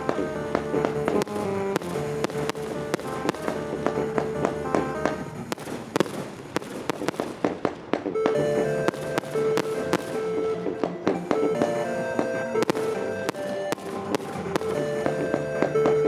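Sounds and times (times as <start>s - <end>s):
music playing: 0.0s - 6.1s, 8.2s - 16.0s
fireworks bursting and crackling: 0.0s - 16.0s.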